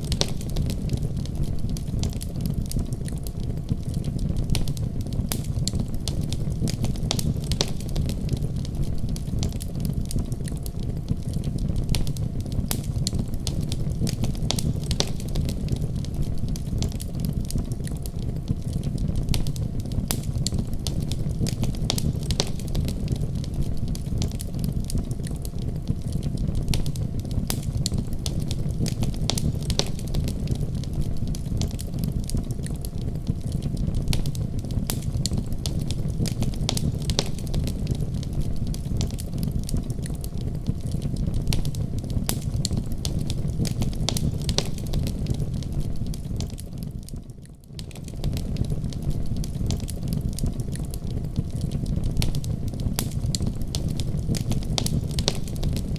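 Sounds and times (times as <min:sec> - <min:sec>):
fire crackling and popping: 0:00.0 - 0:55.9
fire flames rumbling: 0:00.0 - 0:55.9.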